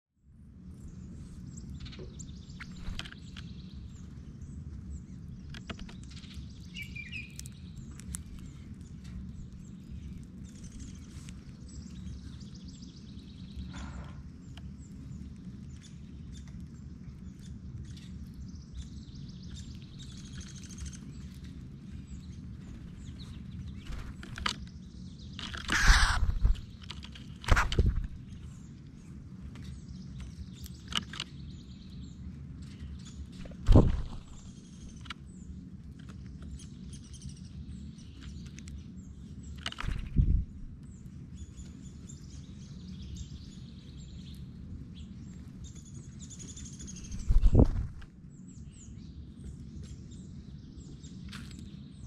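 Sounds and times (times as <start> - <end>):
low outdoor rumble: 0.2 - 52.0
birds chirping: 0.4 - 52.0.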